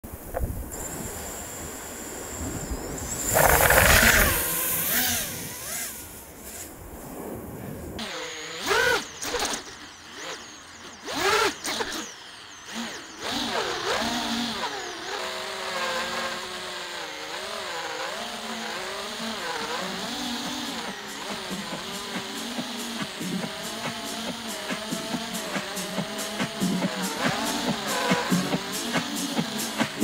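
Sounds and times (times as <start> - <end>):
quadcopter propellers whining: 0.1 - 30.0.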